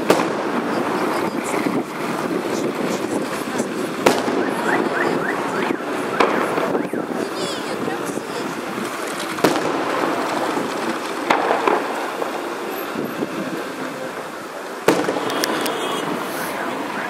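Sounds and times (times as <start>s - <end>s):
fireworks bangs with echo: 0.0s - 17.0s
steady background noise: 0.0s - 17.0s.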